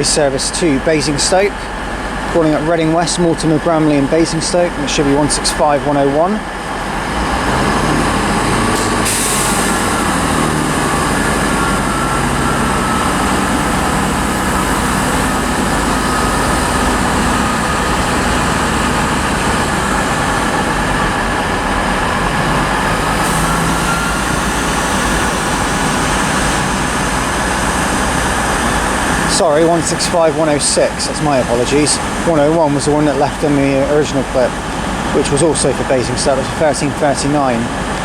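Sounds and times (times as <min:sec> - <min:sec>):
train engines running: 0:00.0 - 0:38.0.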